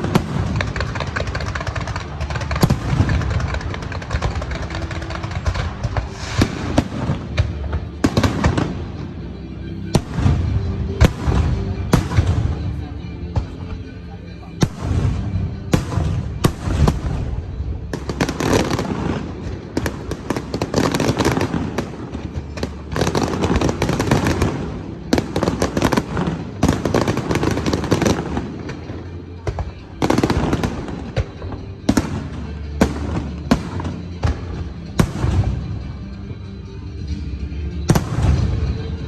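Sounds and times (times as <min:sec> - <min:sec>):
fireworks bangs: 0:00.0 - 0:36.4, 0:37.8 - 0:39.0
fireworks crackling: 0:00.0 - 0:39.0.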